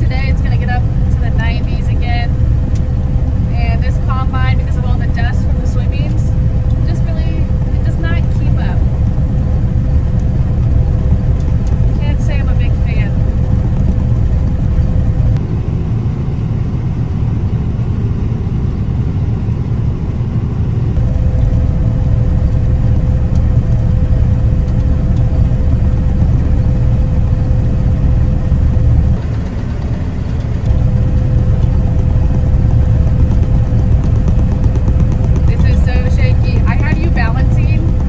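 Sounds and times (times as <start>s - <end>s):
combine harvester rumble: 0.0s - 38.0s
steady whine: 0.0s - 38.0s.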